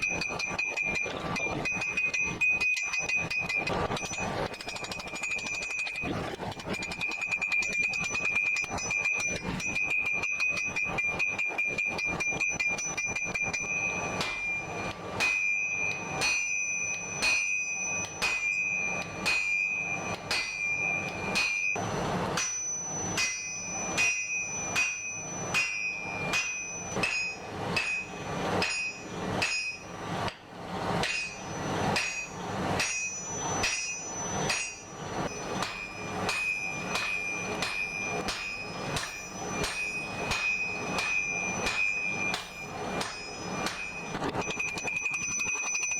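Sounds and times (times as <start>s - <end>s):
hammer ringing on anvil: 0.0s - 5.8s, 7.2s - 30.4s, 31.0s - 45.9s.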